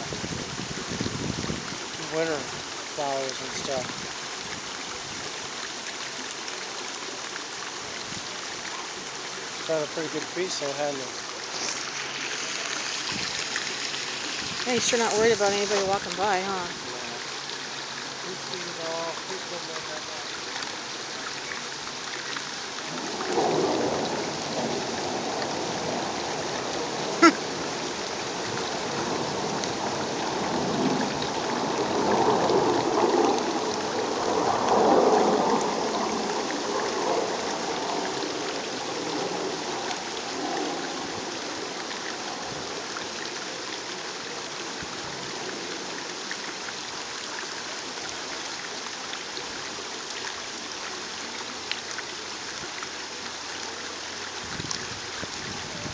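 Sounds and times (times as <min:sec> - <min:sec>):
steady rushing water-like noise: 0:00.0 - 0:55.9.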